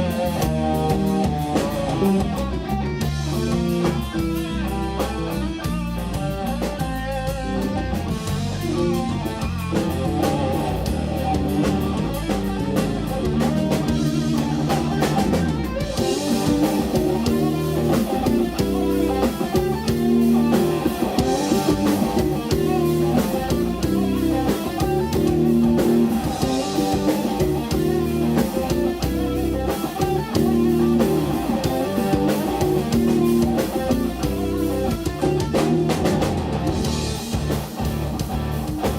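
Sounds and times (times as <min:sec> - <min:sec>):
drum kit steady beat: 0:00.0 - 0:38.9
electric guitar: 0:00.0 - 0:38.9.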